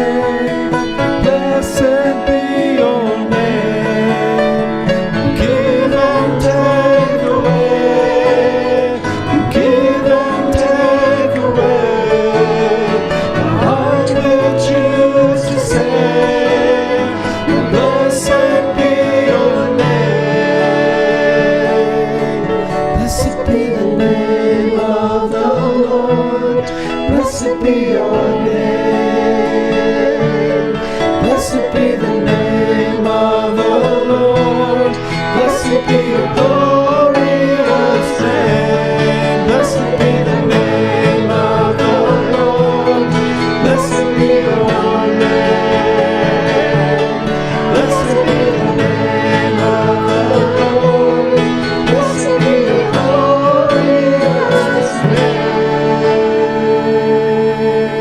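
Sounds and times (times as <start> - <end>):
song with instrumental accompaniment: 0.0 - 58.0.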